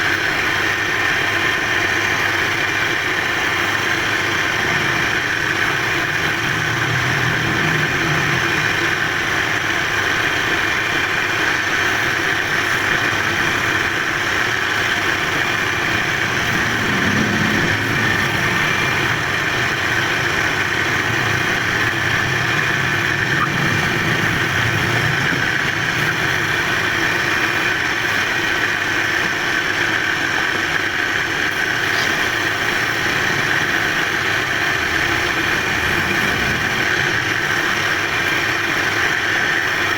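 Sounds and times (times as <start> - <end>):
wood lathe running: 0.0 - 39.9.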